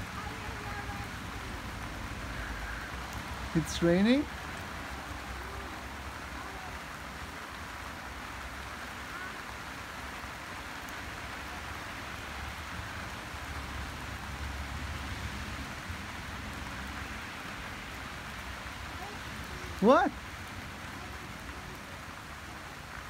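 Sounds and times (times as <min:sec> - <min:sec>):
light rain on grass and leaves: 0:00.0 - 0:23.0.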